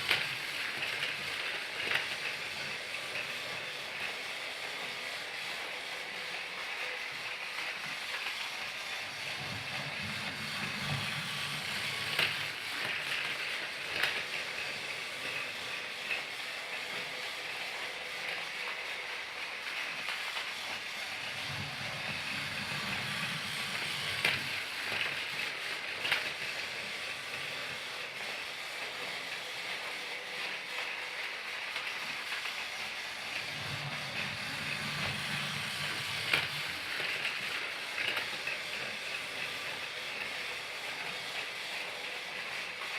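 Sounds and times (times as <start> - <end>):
sharp clicks of toy train: 0.0 - 5.0, 6.4 - 17.2, 17.8 - 29.5, 30.4 - 41.6
toy train whirring: 0.0 - 42.9.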